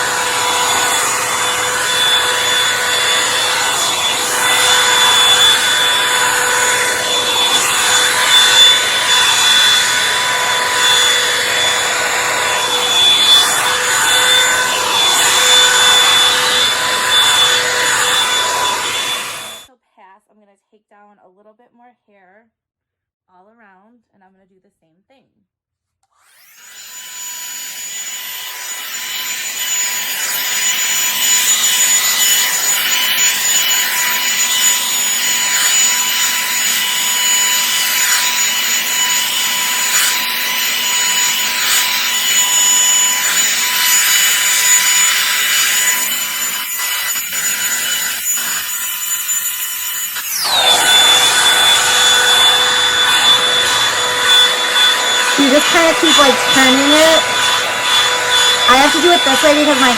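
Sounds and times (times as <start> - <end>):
hot-air brush dryer whine: 0.0 - 19.7, 26.2 - 59.9.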